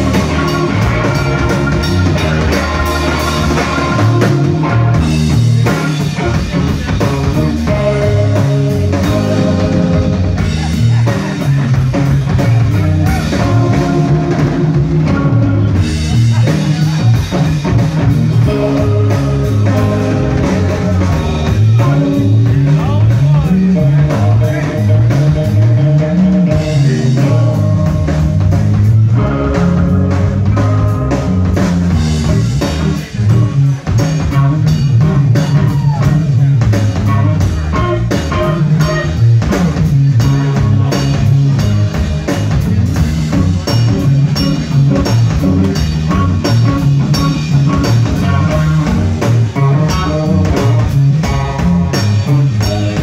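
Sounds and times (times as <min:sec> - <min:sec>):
bass line: 0:00.0 - 0:53.0
drum kit: 0:00.0 - 0:53.0
electric guitar: 0:00.0 - 0:53.0.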